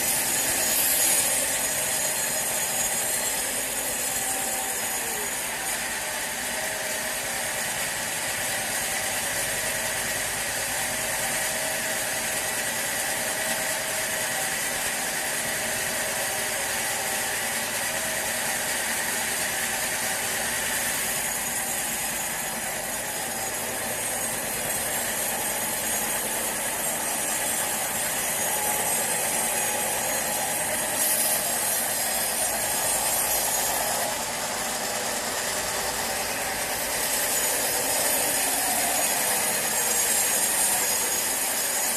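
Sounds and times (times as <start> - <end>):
bandsaw sawmill running: 0.0 - 41.9.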